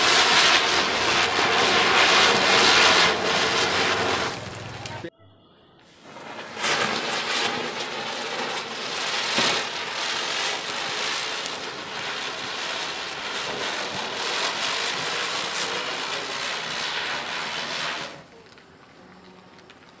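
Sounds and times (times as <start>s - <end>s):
spinner firework hissing: 0.0s - 5.1s, 5.8s - 20.0s.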